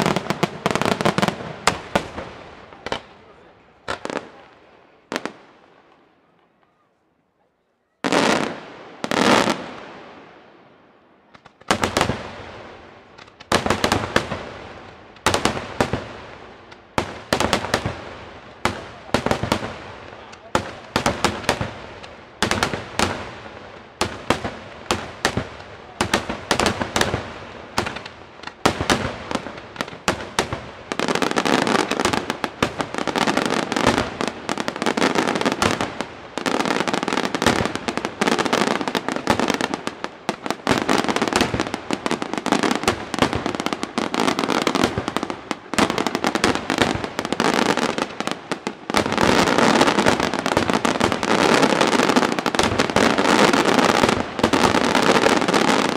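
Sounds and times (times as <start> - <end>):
fireworks bursting: 0.0 - 6.8, 8.0 - 55.9
fireworks crackle: 0.0 - 6.8, 11.2 - 55.9.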